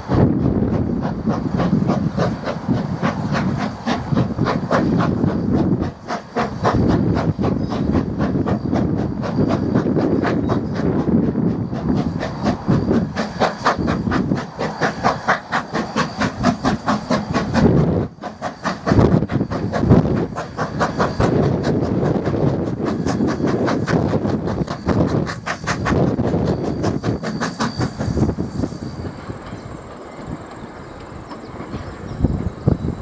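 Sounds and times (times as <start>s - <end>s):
steam locomotive exhaust beating: 0.0s - 33.0s.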